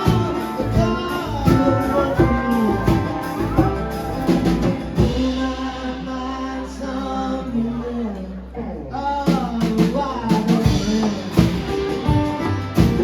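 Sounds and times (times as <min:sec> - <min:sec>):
drums: 0:00.0 - 0:06.8, 0:09.2 - 0:13.0.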